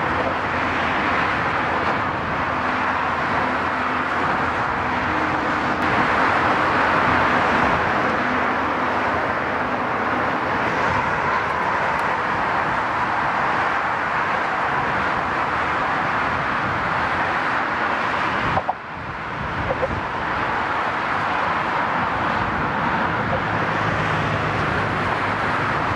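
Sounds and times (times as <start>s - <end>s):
road traffic rushing: 0.0s - 25.9s.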